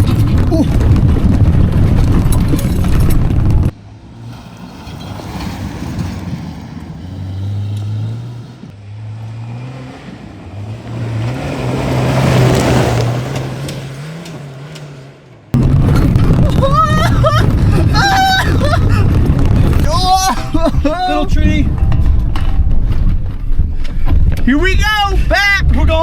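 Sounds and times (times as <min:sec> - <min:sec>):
pickup truck engine accelerating: 0:00.0 - 0:20.9
tyre and dirt noise: 0:00.0 - 0:26.0.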